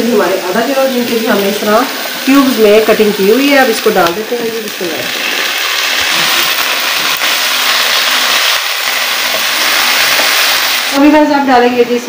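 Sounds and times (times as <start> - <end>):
potatoes sizzling in fat: 0.0 - 11.6.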